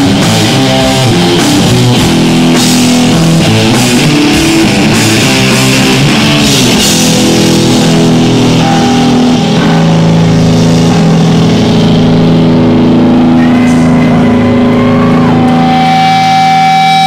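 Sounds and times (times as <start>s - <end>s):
distorted punk band chord: 0.0s - 17.0s
feedback whine: 0.0s - 17.0s.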